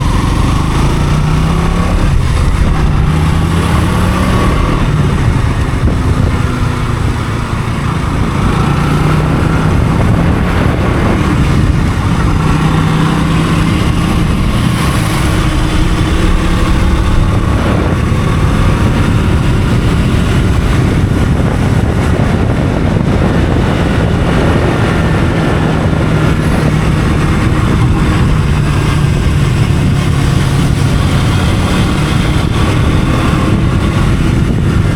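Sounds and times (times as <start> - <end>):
loud rushing noise: 0.0 - 34.9
motorcycle engine running: 0.0 - 34.9.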